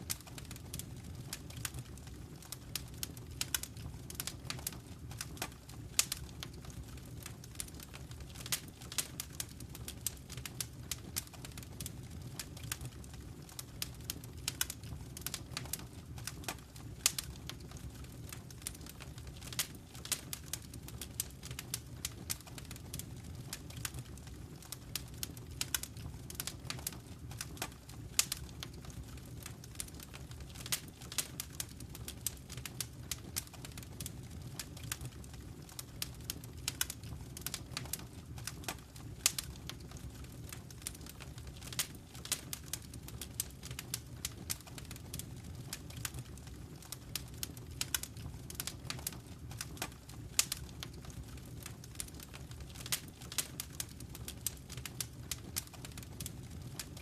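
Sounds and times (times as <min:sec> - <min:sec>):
low rumble of burning fire: 0:00.0 - 0:57.0
wood fire pops and snaps: 0:00.0 - 0:57.0.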